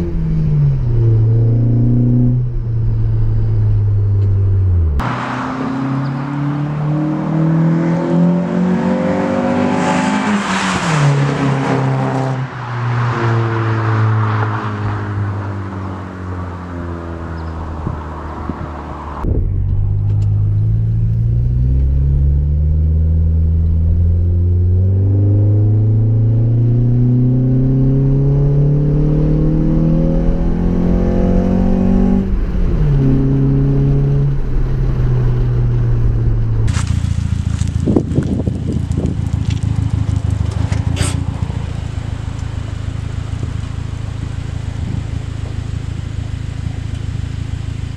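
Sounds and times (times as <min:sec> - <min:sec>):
car exhaust accelerating: 0:00.0 - 0:47.9.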